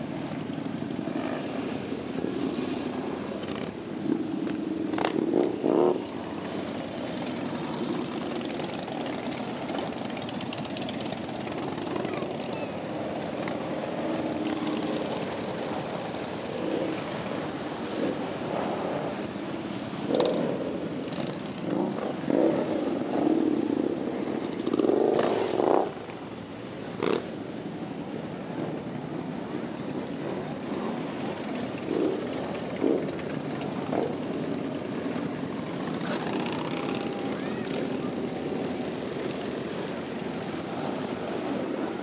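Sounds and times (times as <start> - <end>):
motorcycle engines passing: 0.0 - 42.0
motorcycle engines revving: 0.0 - 42.0.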